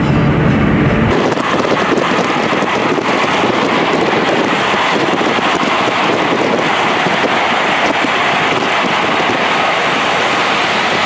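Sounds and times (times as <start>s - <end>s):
wind and tyre noise: 0.0s - 11.0s.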